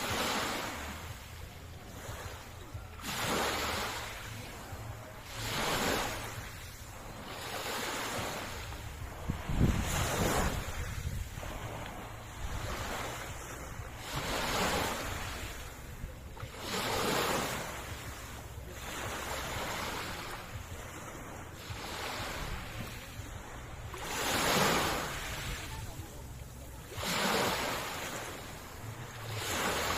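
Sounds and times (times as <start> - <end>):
sea waves washing onto shore: 0.0 - 29.9.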